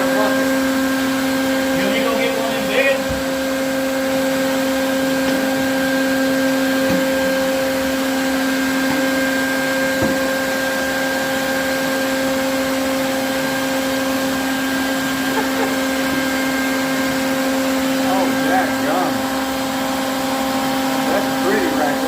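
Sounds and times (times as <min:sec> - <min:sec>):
vacuum motor running: 0:00.0 - 0:22.0.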